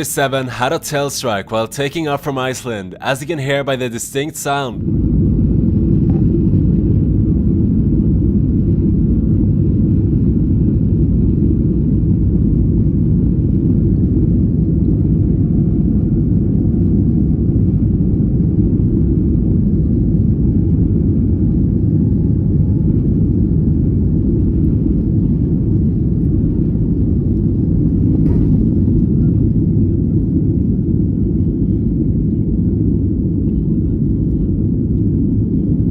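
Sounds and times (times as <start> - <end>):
airplane takeoff rumble: 0.0 - 35.9.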